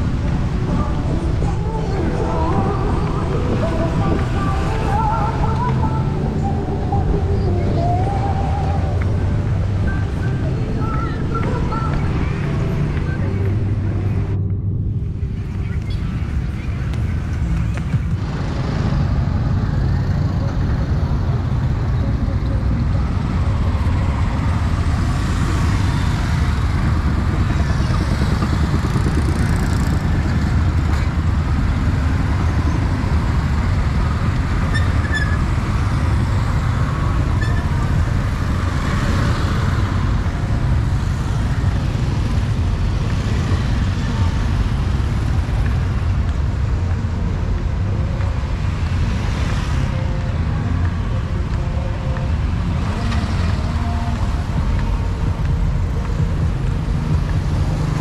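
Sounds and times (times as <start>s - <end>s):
rumble of passing vehicles: 0.0s - 58.0s.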